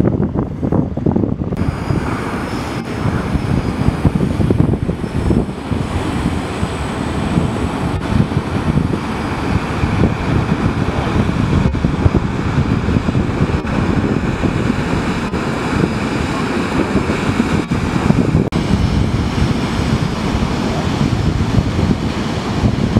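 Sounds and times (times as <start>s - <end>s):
boat engines: 0.0s - 22.9s
rushing bow wash: 0.0s - 22.9s
wind buffeting microphone: 0.0s - 22.9s.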